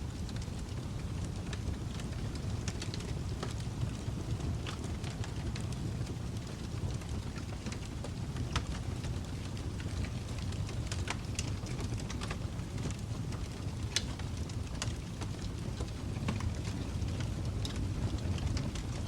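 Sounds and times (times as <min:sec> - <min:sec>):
low rumble of flames: 0:00.0 - 0:19.0.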